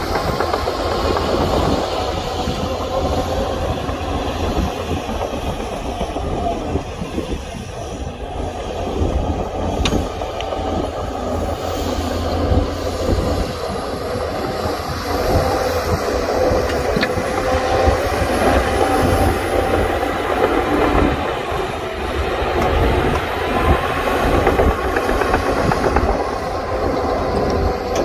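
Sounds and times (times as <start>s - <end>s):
heavy diesel machinery rumbling: 0.0s - 28.0s.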